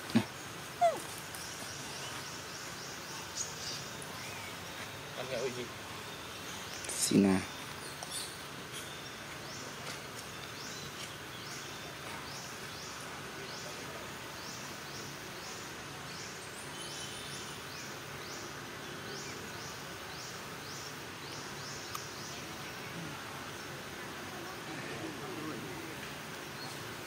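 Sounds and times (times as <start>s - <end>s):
forest background: 0.0s - 27.0s.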